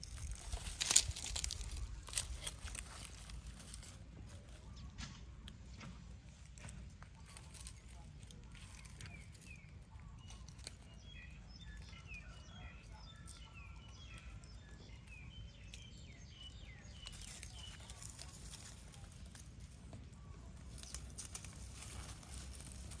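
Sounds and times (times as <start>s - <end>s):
rustling in dry leaves: 0.0s - 23.0s
small birds chirping: 0.0s - 23.0s.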